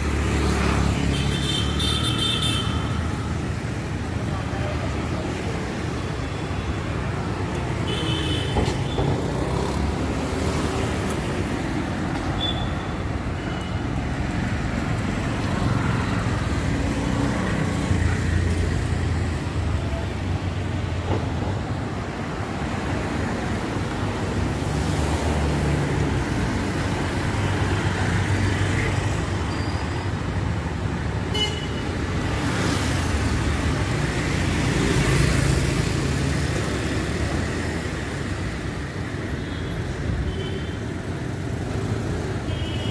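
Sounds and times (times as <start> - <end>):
traffic rumble: 0.0 - 42.9.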